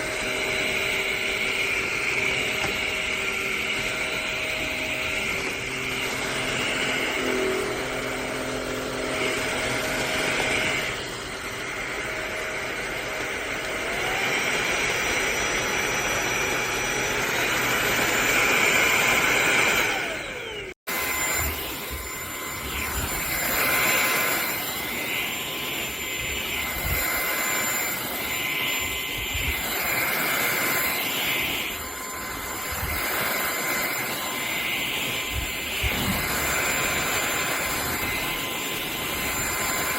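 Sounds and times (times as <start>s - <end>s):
stick vacuum motor whine: 0.0s - 39.9s.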